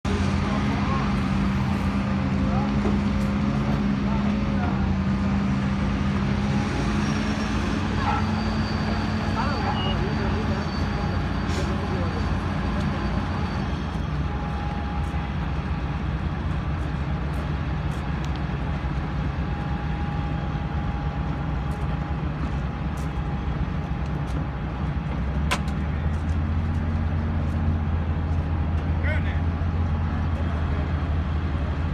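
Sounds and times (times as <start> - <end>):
diesel engine rumbling: 0.0 - 31.9.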